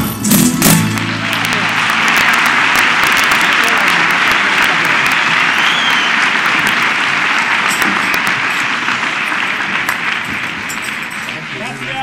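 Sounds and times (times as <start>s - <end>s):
audience applauding: 0.7s - 12.0s.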